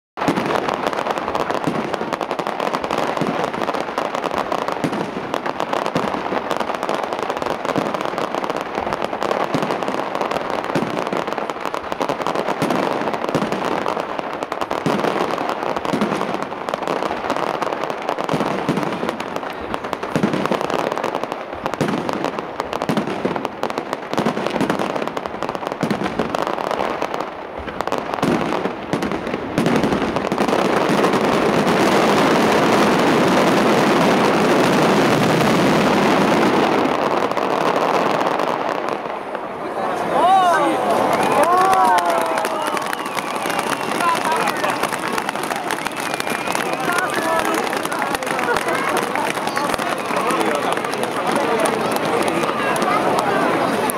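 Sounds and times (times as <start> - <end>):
fireworks bursting: 0.2 - 53.9.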